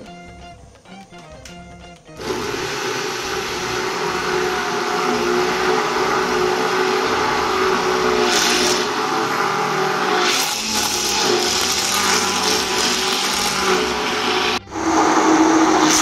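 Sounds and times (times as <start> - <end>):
hand blender motor whine: 2.2 - 16.0.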